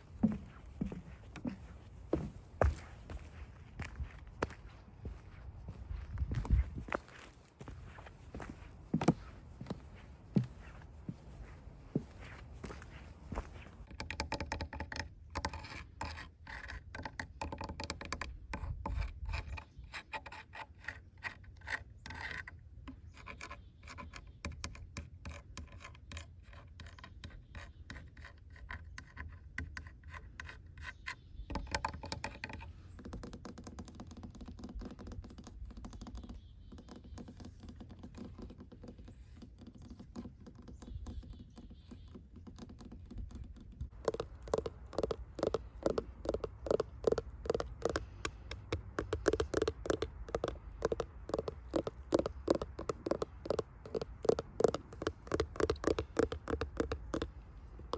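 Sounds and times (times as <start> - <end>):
scratching on rough surface: 0.0 - 57.9.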